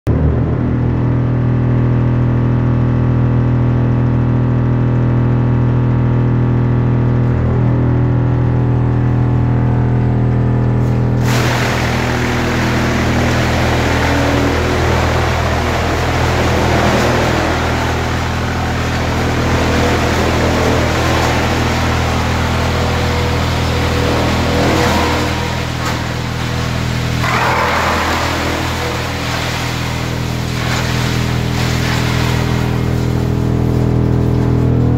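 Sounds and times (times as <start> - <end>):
wood chipper humming: 0.1 - 34.9
wood chipper chipping tree trunk: 2.9 - 34.9.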